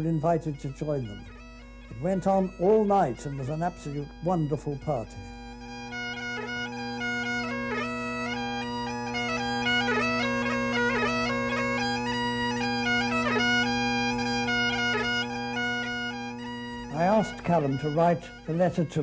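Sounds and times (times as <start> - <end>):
bagpipes playing a tune: 0.0 - 19.0.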